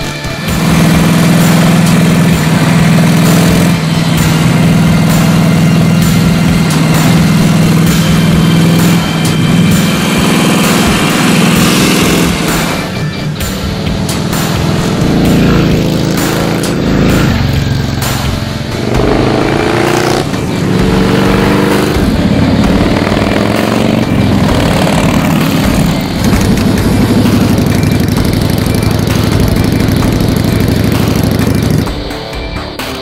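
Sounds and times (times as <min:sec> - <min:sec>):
motorcycle exhaust accelerating: 0:00.0 - 0:32.2.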